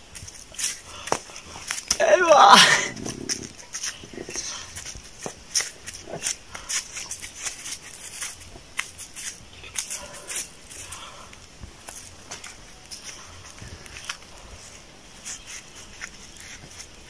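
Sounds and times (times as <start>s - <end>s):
flip-flop footsteps on dry leaves: 0.0s - 17.0s.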